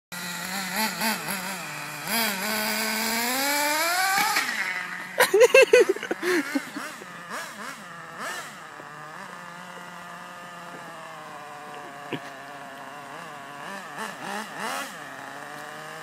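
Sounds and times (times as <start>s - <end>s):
toy car motor revving: 0.2s - 16.0s.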